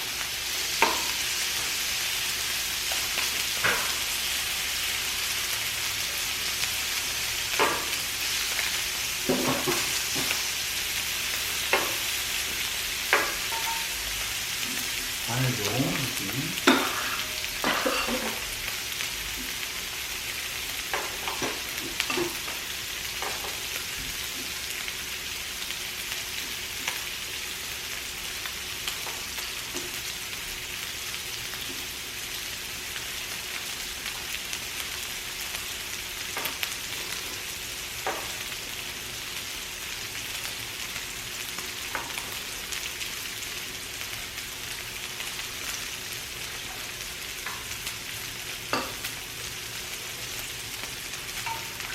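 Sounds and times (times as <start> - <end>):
meat sizzling in a grill pan: 0.0 - 51.9.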